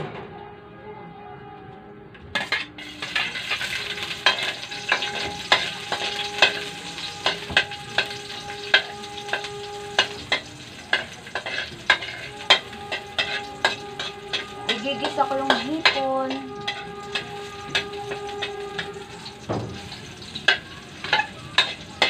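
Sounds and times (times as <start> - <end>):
garlic and onion sizzling in oil: 2.4 - 22.0
metal spoon scraping a wok: 2.4 - 22.0.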